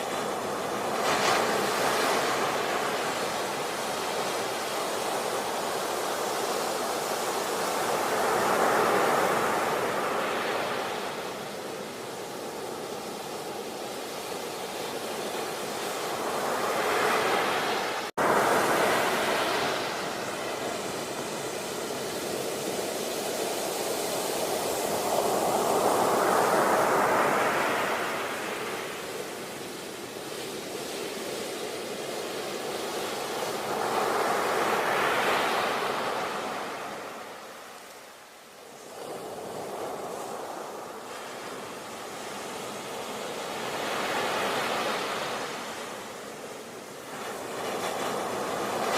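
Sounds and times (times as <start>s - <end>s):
sea waves washing onto shore: 0.0s - 48.9s.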